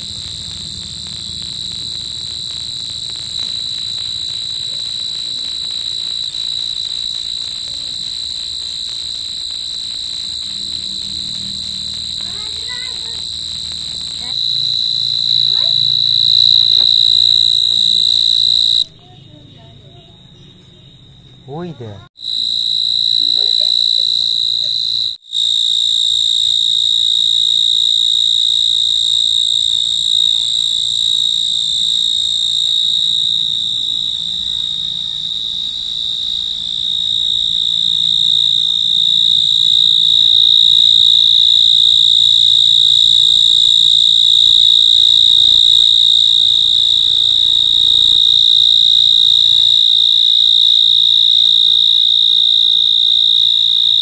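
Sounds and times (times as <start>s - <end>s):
insect high-pitched trill: 0.0s - 54.0s.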